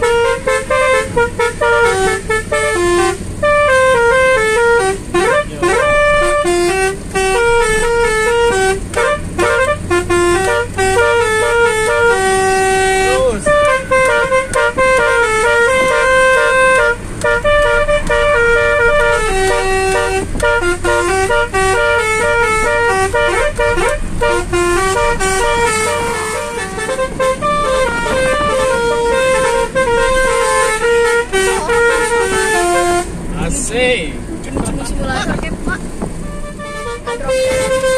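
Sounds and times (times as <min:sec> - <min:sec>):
musical air horns playing tune: 0:00.0 - 0:33.3, 0:36.2 - 0:37.9
car engine hum and road noise: 0:00.0 - 0:37.9.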